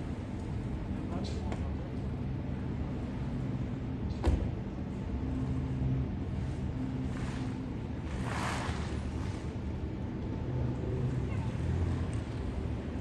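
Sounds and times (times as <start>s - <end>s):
water: 0.0s - 13.0s.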